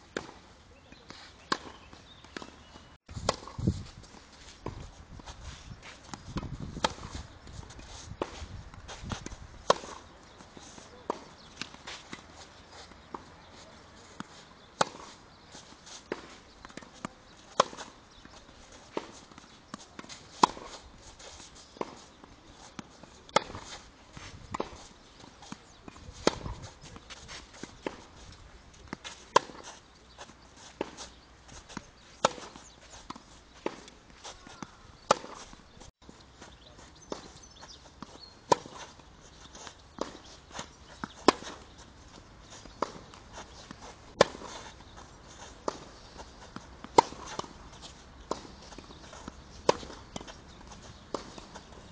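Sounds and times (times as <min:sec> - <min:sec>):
shoes scuffing on clay: 0:00.0 - 0:51.9
tennis ball racket hits: 0:04.6 - 0:13.2, 0:13.8 - 0:28.2, 0:28.8 - 0:35.8, 0:38.0 - 0:51.9.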